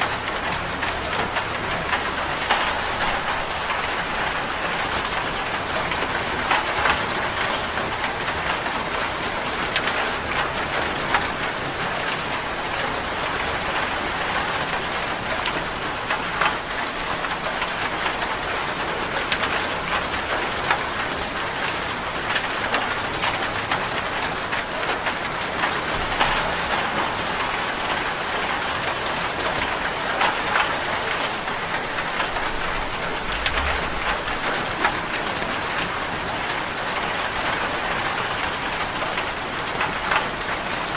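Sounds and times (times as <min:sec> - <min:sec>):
raindrops ticking and splatting: 0:00.0 - 0:40.9
steady rain falling: 0:00.0 - 0:40.9.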